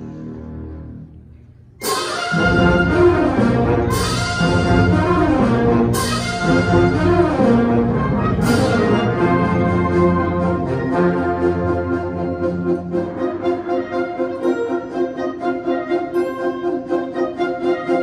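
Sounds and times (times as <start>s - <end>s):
concert band playing: 1.8s - 17.7s.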